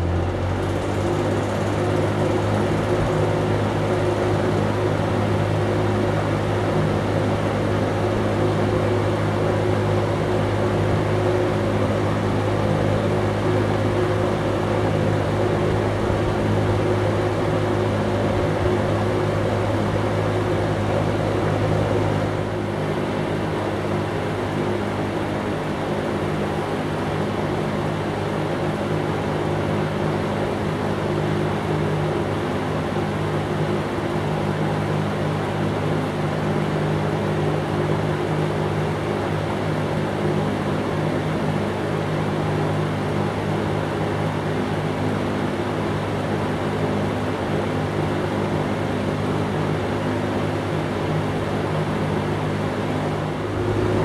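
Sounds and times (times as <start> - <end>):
air rushing from fan blades: 0.0 - 54.0
box fan motor hum: 0.0 - 54.0.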